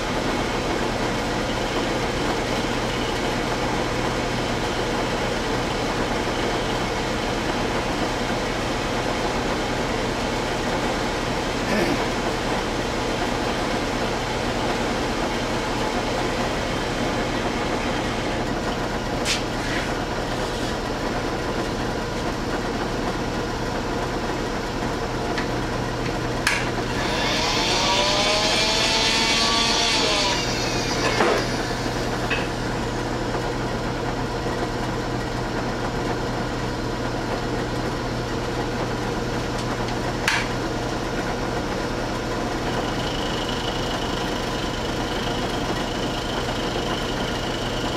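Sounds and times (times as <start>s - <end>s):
milling machine hum: 0.0s - 47.9s.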